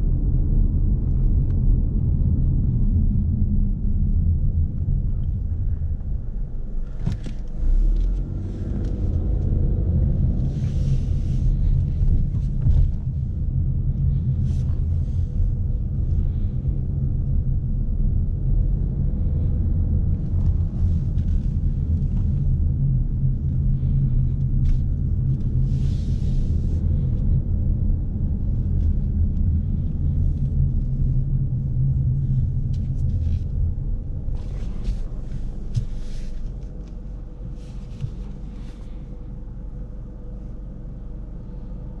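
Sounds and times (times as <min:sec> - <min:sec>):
car engine running: 0:00.9 - 0:42.0.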